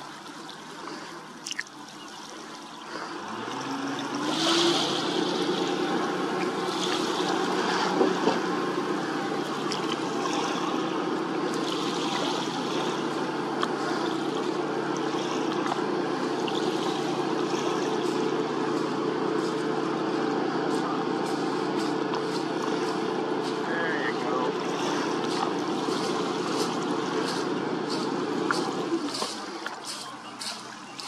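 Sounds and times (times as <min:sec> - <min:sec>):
boat engine droning: 0:00.0 - 0:31.0
water splashing and trickling: 0:00.0 - 0:31.0.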